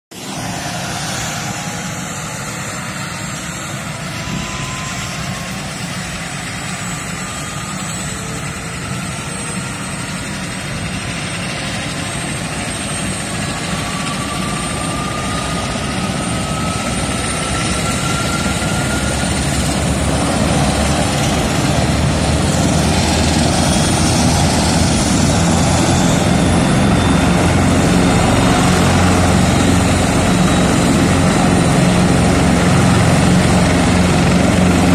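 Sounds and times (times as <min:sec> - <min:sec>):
helicopter turbine engines whining: 0:00.1 - 0:34.9.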